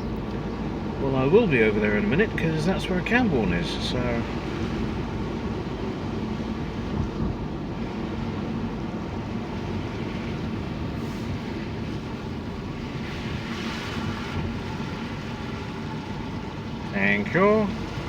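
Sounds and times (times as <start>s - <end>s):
vehicle running hum: 0.0s - 18.0s.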